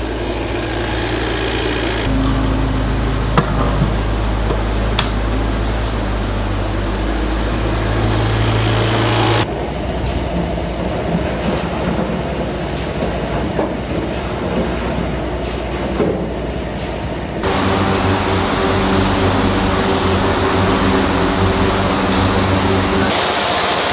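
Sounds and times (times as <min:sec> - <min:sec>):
factory machinery running: 0:00.0 - 0:23.9.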